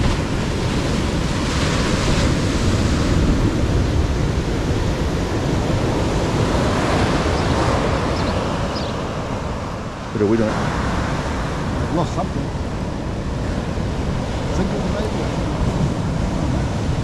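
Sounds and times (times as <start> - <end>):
surf breaking on beach: 0.0 - 17.0
wind on microphone: 0.0 - 17.0.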